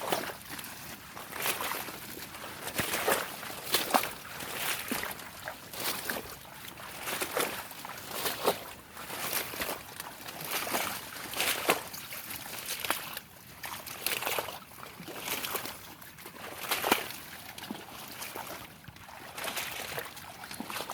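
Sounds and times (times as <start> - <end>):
river water splashing: 0.0 - 20.9.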